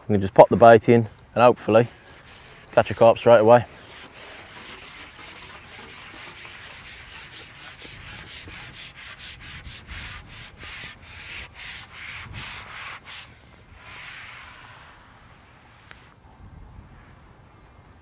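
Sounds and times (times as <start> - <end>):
fishing pole sections rubbing hands: 0.6 - 16.2.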